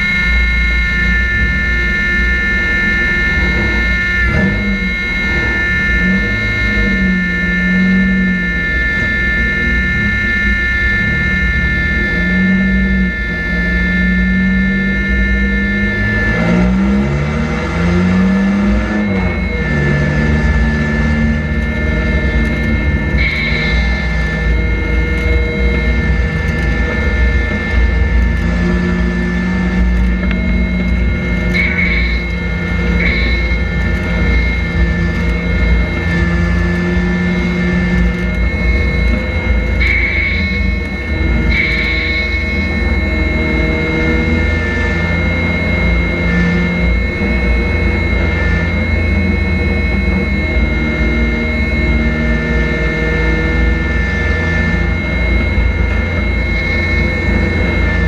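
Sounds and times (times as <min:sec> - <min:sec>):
race car engine: 0:00.0 - 0:58.0
steady high whine: 0:00.0 - 0:58.0.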